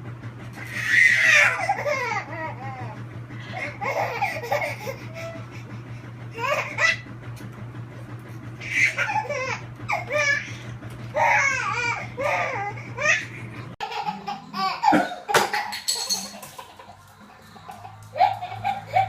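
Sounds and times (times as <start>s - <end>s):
baby laughing: 0.6s - 5.5s, 6.3s - 7.0s, 8.6s - 19.0s.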